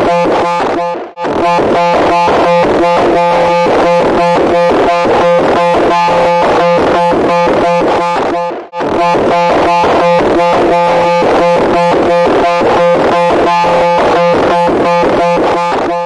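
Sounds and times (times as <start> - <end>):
harsh electronic pulsing tone: 0.0 - 16.0.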